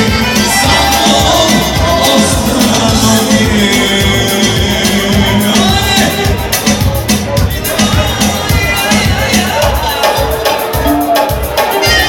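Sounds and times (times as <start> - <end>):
steady beat: 0.0 - 12.0.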